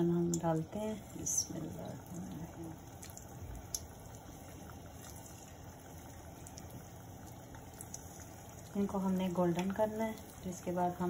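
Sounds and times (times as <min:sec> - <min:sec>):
chicken sizzling in hot oil: 0:00.0 - 0:11.0
oil popping: 0:00.2 - 0:10.8.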